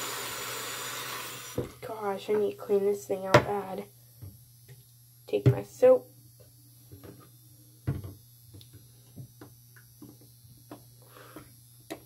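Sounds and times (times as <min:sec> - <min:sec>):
electrical buzz from lights: 0:00.0 - 0:12.0.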